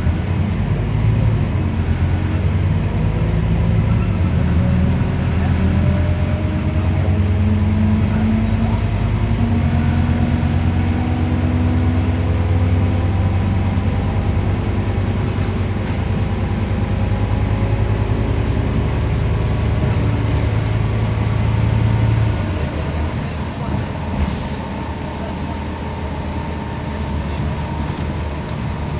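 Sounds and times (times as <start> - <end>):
bus engine running: 0.0 - 28.9
tyre and road noise: 0.0 - 28.9.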